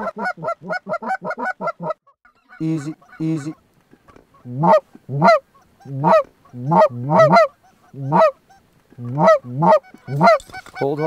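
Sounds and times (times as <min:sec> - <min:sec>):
goose call honks: 0:00.0 - 0:03.6, 0:04.3 - 0:11.0.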